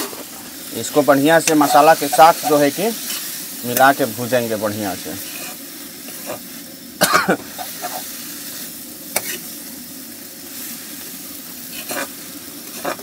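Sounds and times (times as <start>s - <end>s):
prawns sizzling in oil: 0.0s - 13.0s.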